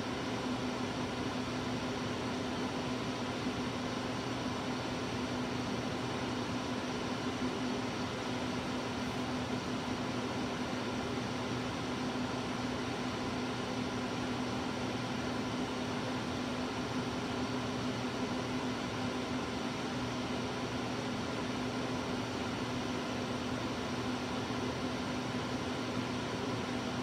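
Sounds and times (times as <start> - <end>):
fan whir: 0.0 - 27.0.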